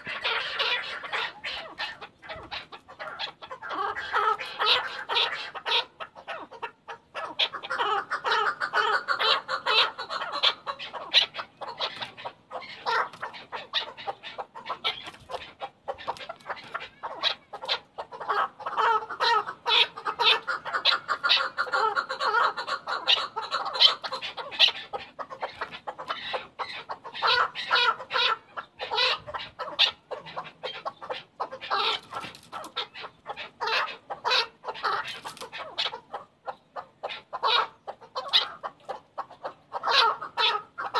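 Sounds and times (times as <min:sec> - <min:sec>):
partridge calling: 0:00.0 - 0:40.9.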